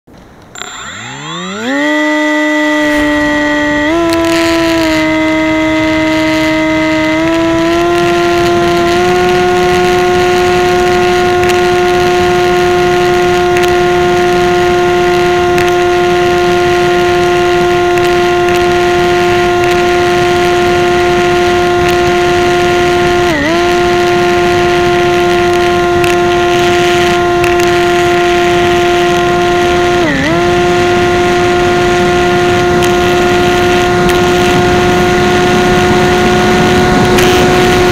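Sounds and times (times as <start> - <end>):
model plane motor whine: 0.5 - 37.9.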